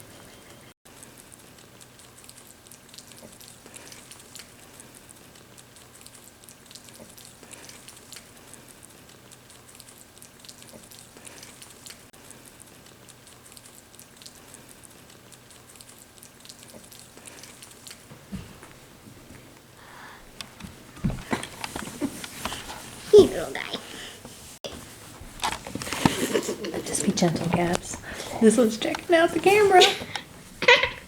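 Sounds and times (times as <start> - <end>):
rabbits chewing greens: 0.1 - 19.4, 20.3 - 31.0.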